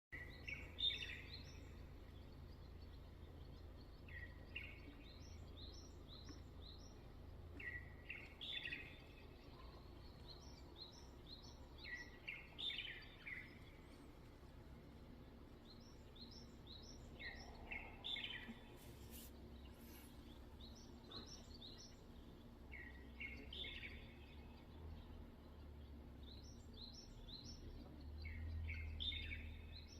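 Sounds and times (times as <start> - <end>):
bird singing: 0.1 - 29.9
low background rumble: 0.2 - 29.9.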